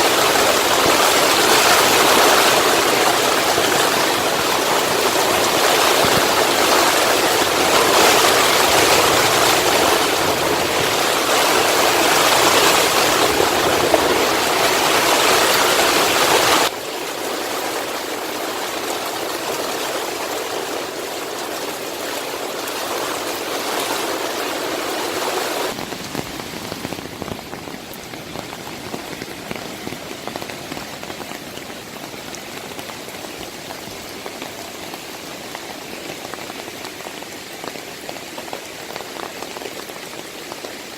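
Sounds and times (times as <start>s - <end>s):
heavy rain: 0.0s - 40.9s
mountain stream rushing: 0.0s - 40.9s.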